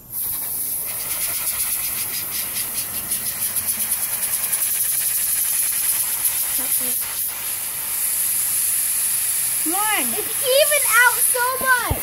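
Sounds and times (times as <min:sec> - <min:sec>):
compressed air hissing with flutter: 0:00.0 - 0:12.0.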